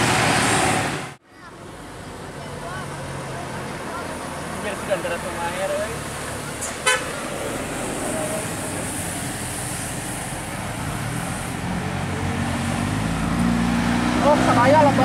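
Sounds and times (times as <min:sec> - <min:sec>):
road traffic: 0:00.0 - 0:15.0
vehicle engine accelerating: 0:02.5 - 0:15.0.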